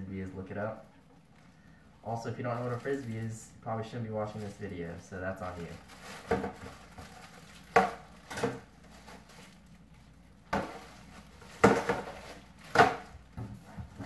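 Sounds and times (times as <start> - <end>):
plastic bag handling noise: 0.6 - 14.0.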